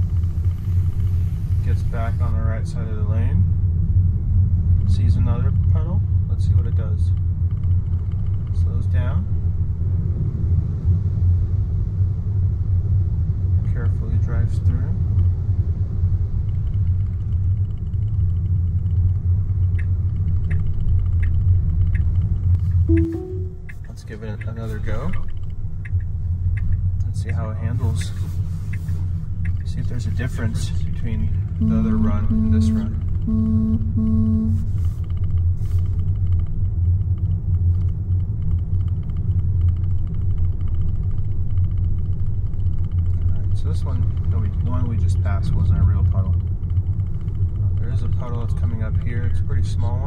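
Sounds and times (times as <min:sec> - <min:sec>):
road rumble inside car: 0:00.0 - 0:22.9, 0:23.9 - 0:50.0.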